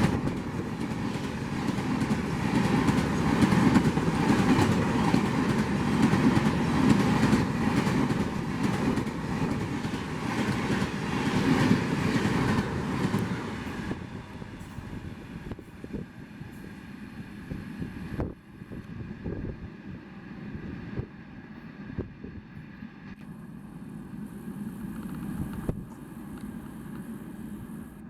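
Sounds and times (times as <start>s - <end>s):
wind buffeting microphone: 0.0s - 22.8s
train rumbling past: 0.0s - 28.0s.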